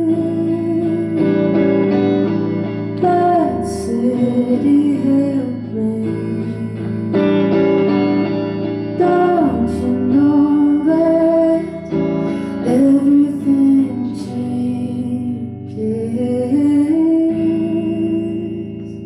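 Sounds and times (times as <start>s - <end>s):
plucked guitar chords: 0.0s - 19.0s
woman singing: 0.0s - 19.0s.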